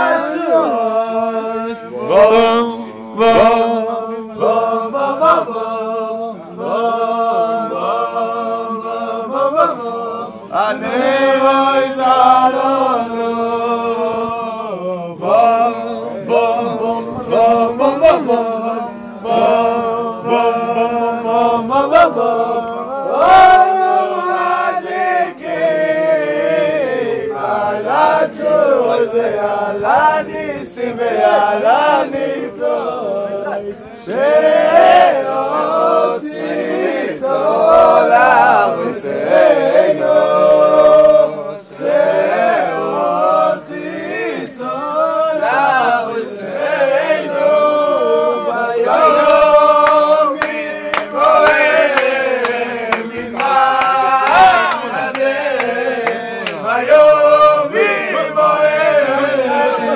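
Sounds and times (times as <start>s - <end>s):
men singing unaccompanied: 0.0s - 59.9s.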